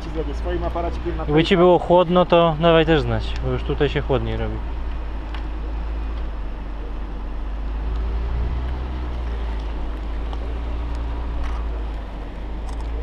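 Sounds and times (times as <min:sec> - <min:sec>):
car engine: 0:00.0 - 0:13.0
tyre noise on road: 0:00.0 - 0:13.0.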